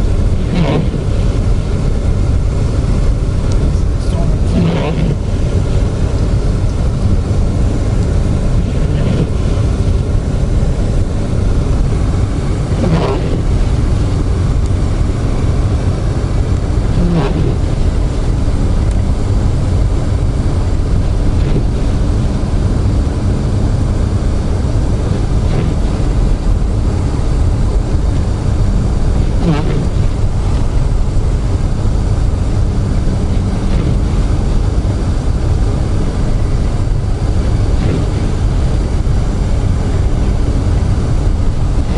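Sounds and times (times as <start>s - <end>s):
car cabin road rumble: 0.0s - 41.9s
windshield wiper swishing: 0.1s - 19.1s, 19.7s - 22.0s, 24.9s - 28.2s, 29.0s - 31.4s, 32.2s - 41.9s.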